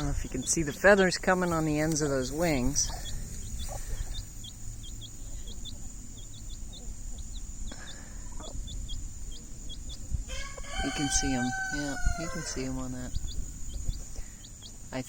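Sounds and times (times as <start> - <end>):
chicks peeping: 0.0 - 15.0
chicken calling: 2.3 - 14.7.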